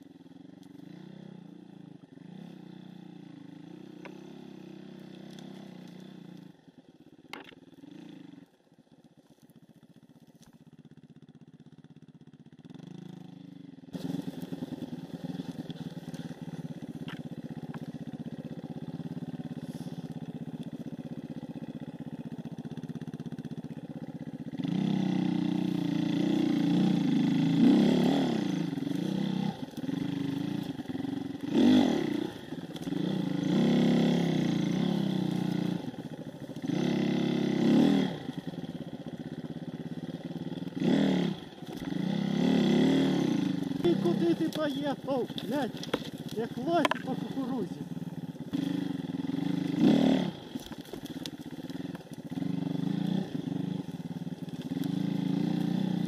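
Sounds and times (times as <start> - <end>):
dirt bike engine revving: 0.8 - 6.5, 7.3 - 8.5, 11.0 - 56.0.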